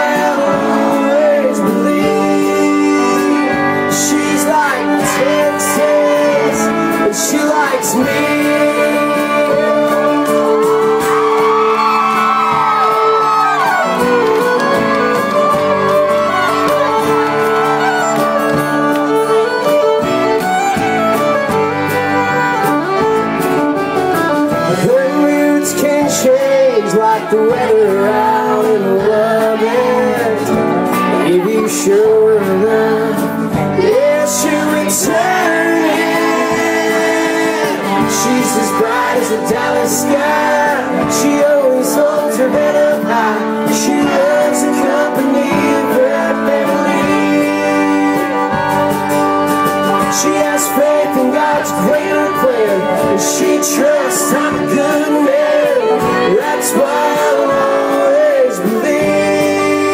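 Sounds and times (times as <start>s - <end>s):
man singing: 0.0s - 20.7s, 24.4s - 59.9s
acoustic guitar strummed: 0.0s - 59.9s
fiddle melody: 0.0s - 59.9s.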